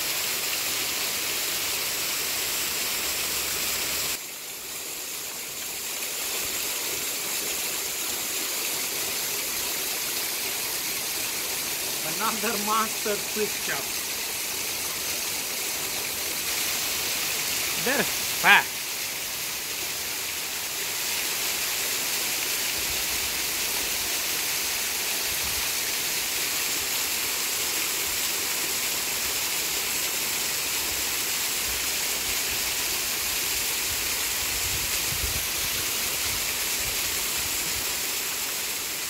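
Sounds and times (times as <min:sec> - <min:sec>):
waterfall rushing: 0:05.4 - 0:39.0.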